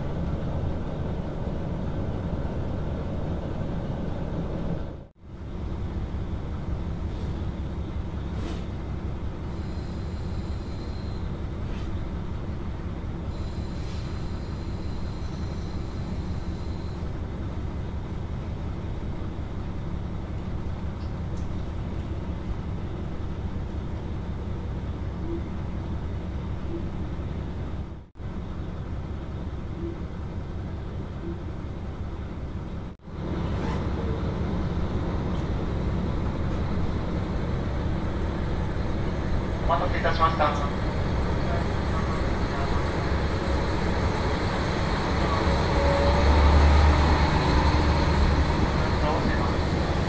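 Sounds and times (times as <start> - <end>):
diesel railcar engine rumble: 0.0 - 50.0.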